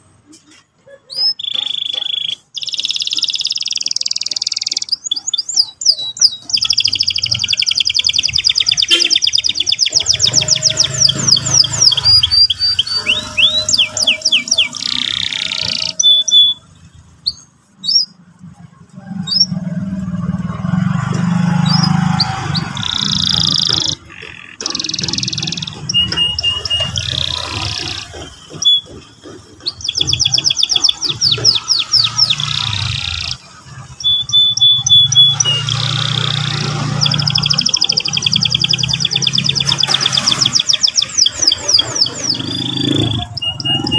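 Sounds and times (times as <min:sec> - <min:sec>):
canary singing: 0:00.9 - 0:43.9.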